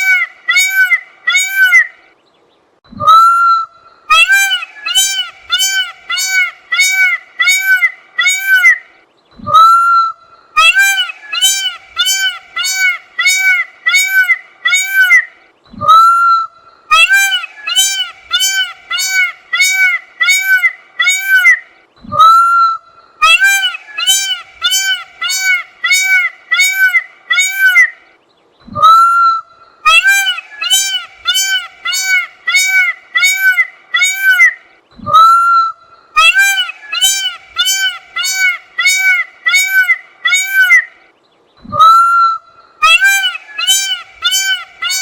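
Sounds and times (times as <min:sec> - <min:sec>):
peacock honking calls: 0:00.0 - 0:02.0, 0:03.0 - 0:08.9, 0:09.5 - 0:28.0, 0:28.8 - 0:41.0, 0:41.8 - 0:45.0
peacock rising call: 0:00.0 - 0:02.0, 0:02.9 - 0:28.0, 0:28.7 - 0:41.0, 0:41.7 - 0:45.0.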